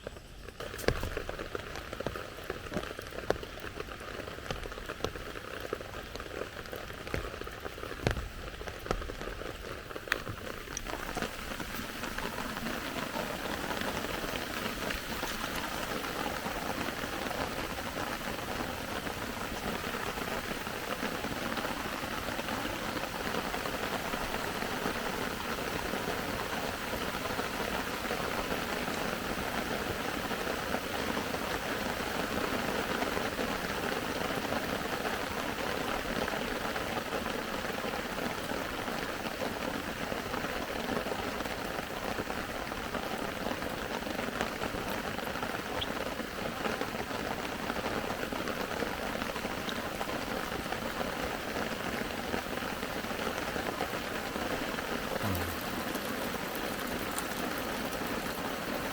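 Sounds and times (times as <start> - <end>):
rain: 0.0 - 58.9.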